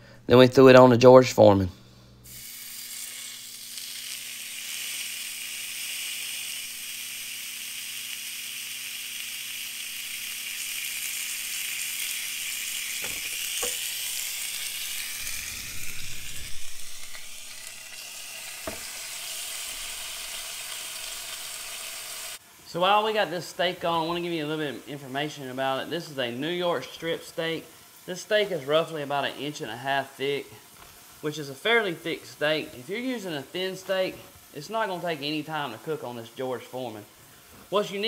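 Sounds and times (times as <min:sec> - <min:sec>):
steak sizzling on grill: 0:02.2 - 0:38.0.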